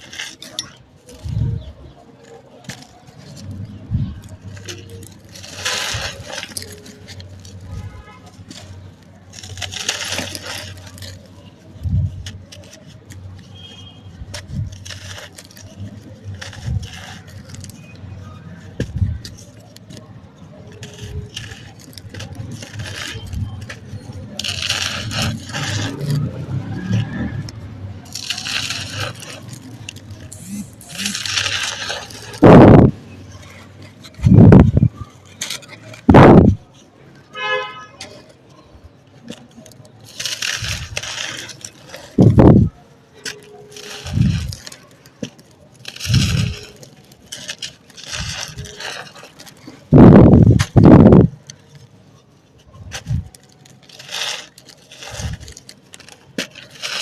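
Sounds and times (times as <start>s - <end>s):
gritty crunching of crumbling cement: 0.0s - 57.0s.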